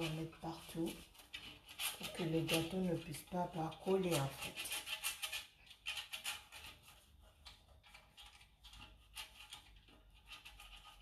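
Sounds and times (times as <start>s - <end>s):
pastry brush scratching metal pan: 0.0s - 11.0s.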